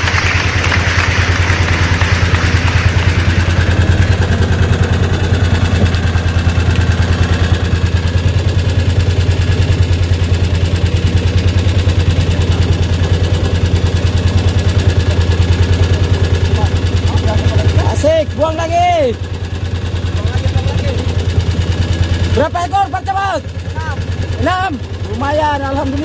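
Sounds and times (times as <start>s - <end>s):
boat engine pulsing hum: 0.0s - 26.0s.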